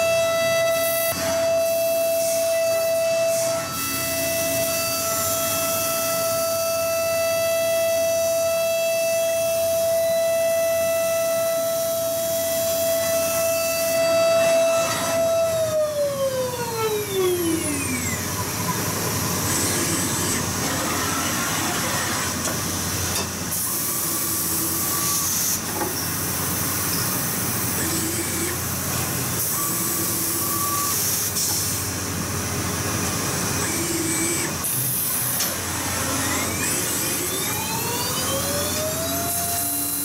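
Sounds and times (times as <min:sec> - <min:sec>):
milling machine spindle whine: 0:00.0 - 0:40.0.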